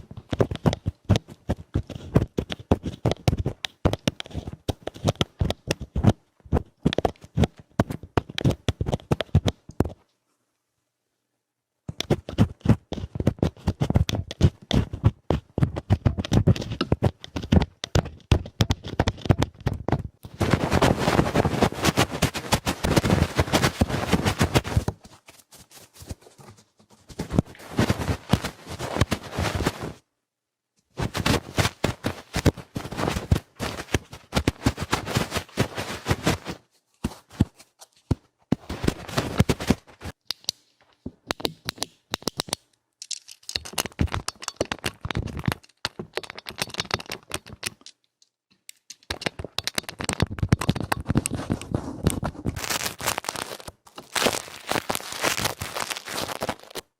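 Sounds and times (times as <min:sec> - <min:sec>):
crackling and tapping clicks: 0:00.0 - 0:10.1, 0:11.9 - 0:25.0, 0:31.0 - 0:36.6, 0:37.2 - 0:56.9.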